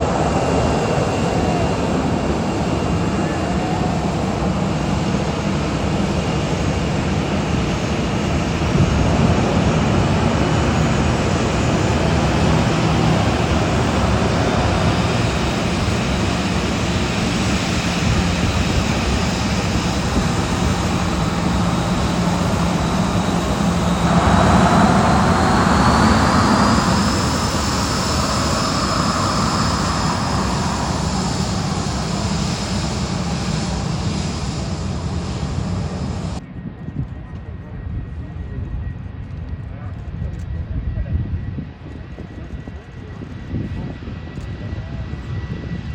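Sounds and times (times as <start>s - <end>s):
jet engines at takeoff: 0.0s - 45.9s.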